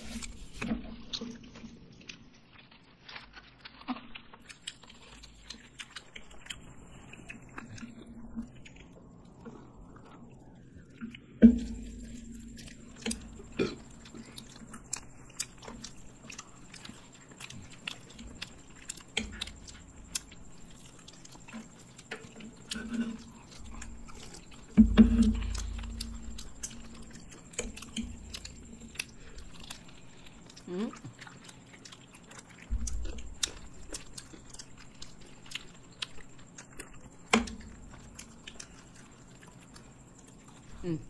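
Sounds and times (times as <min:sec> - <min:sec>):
people chewing and lip-smacking: 0:00.0 - 0:41.0.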